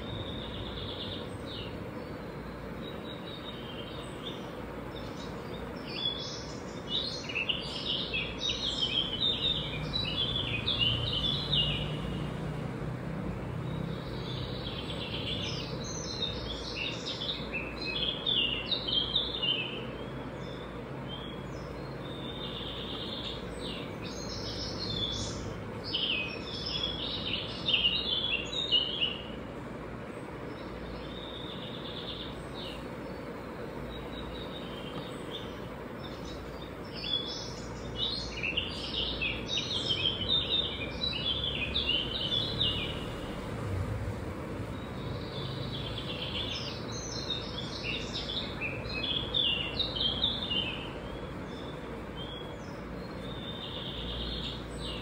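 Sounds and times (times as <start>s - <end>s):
background hiss: 0.0s - 55.0s
small birds chirping: 0.0s - 55.0s.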